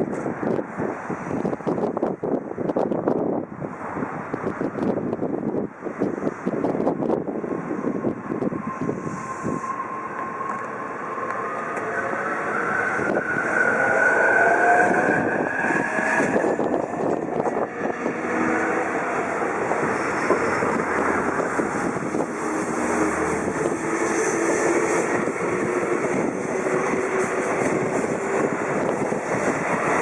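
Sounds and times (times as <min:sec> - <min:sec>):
wheels rumbling on rail: 0:00.0 - 0:30.0.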